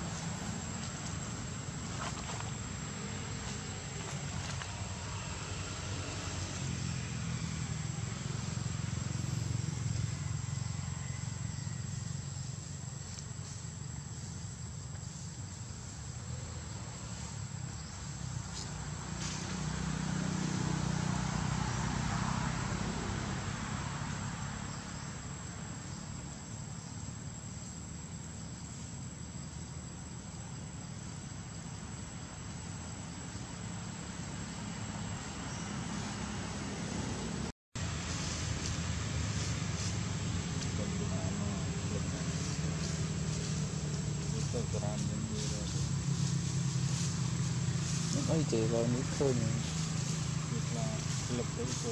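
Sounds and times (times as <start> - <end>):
distant traffic rumble: 0.0 - 51.9
high insect drone: 0.0 - 51.9.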